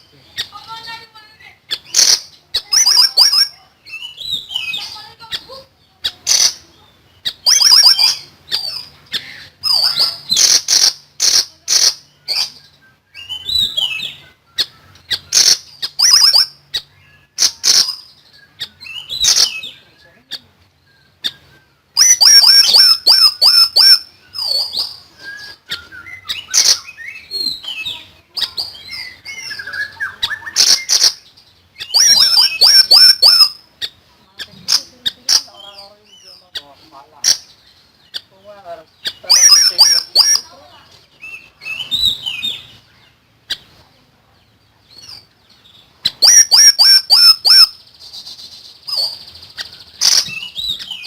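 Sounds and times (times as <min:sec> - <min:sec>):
songbird chirps and trills: 0:00.0 - 0:51.0.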